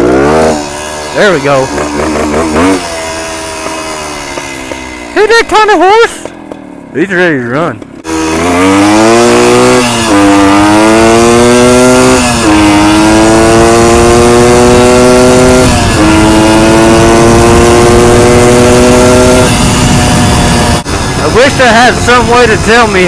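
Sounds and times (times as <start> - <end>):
two-stroke motorcycle engine revving: 0.0 - 23.0.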